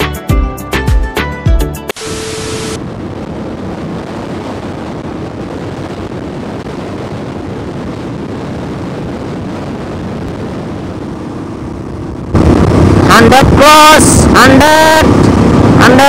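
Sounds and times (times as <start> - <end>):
wind buffeting microphone: 2.7 - 16.0.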